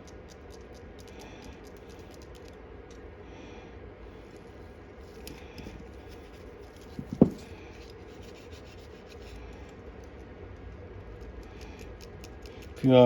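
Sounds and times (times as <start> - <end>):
rubbing and scratching of small parts: 0.0 - 3.0, 4.2 - 13.0.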